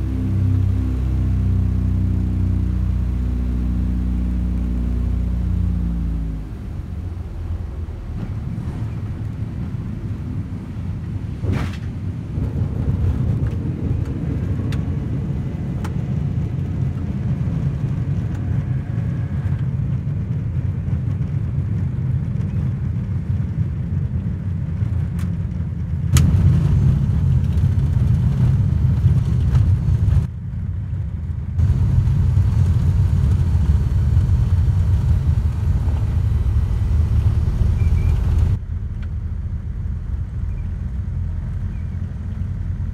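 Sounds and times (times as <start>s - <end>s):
aircraft engine drone: 0.0s - 25.0s, 25.6s - 42.9s.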